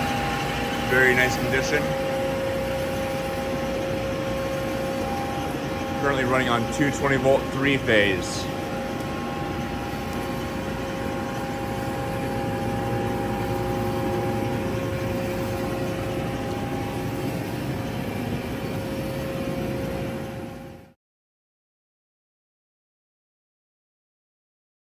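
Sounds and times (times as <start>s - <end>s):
band saw machine hum: 0.0s - 20.9s.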